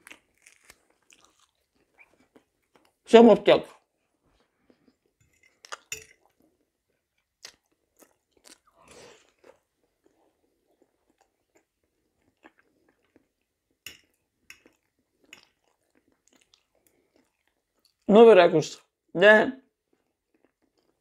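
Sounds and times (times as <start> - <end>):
chewing fried potatoes: 0.0 - 3.1, 3.8 - 18.1, 19.6 - 21.0.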